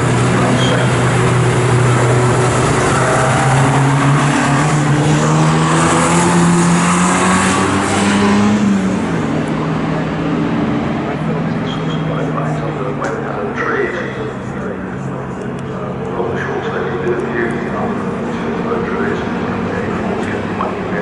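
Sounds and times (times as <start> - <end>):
racing car engines accelerating: 0.0 - 21.0.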